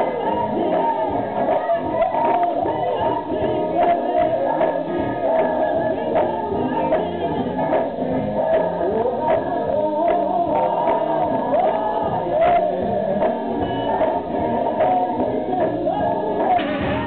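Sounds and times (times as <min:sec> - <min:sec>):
group singing along: 0:00.0 - 0:17.0
woman singing lead: 0:00.0 - 0:17.0
hand claps: 0:00.7 - 0:16.9.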